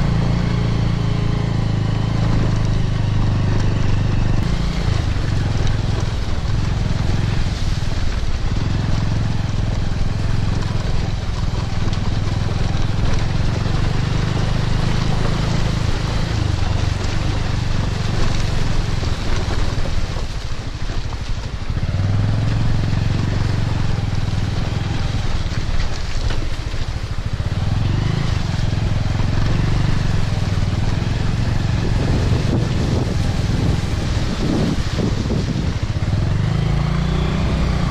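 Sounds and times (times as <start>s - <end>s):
motorcycle engine running: 0.0s - 37.9s
road noise: 0.0s - 37.9s
wind: 0.0s - 37.9s.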